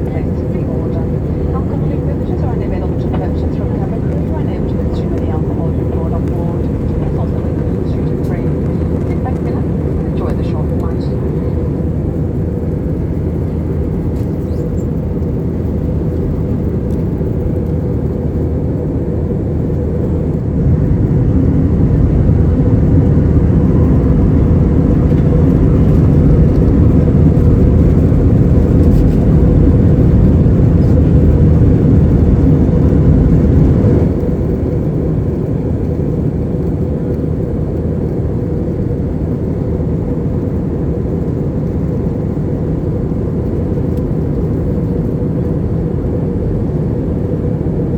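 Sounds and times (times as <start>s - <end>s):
airliner engines rumbling: 0.0s - 47.9s.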